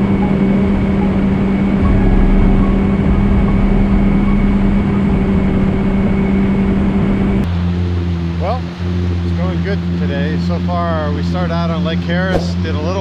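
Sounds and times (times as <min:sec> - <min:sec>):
personal watercraft engine running: 0:00.0 - 0:13.0.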